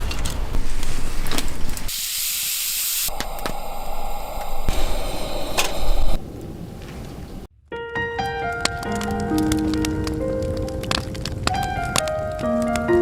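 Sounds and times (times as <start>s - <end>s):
hissing and crackling noise: 0.1s - 7.5s, 8.6s - 13.0s.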